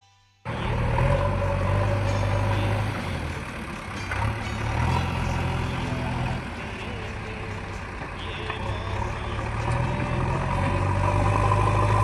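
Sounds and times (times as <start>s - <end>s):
heavy diesel engine running: 0.5s - 12.0s.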